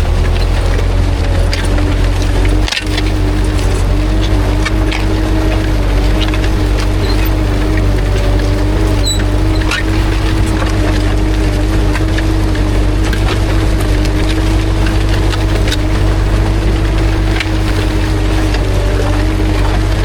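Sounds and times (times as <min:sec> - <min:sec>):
harrow discs cracking in soil: 0:00.0 - 0:20.0
tractor diesel engine running: 0:00.0 - 0:20.0.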